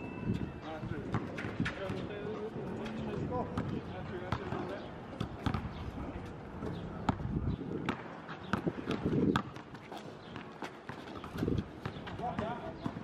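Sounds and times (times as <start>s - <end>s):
basketball dribbling on asphalt: 0.3s - 2.4s, 3.5s - 5.9s, 6.6s - 13.0s.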